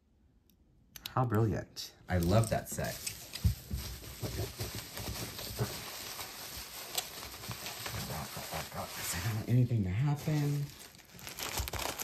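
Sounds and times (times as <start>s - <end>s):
wrapping rustling: 2.1s - 12.0s.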